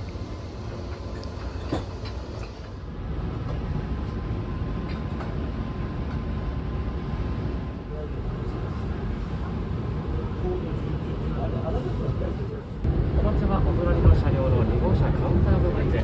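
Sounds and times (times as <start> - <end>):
train running low rumble: 0.0 - 16.0.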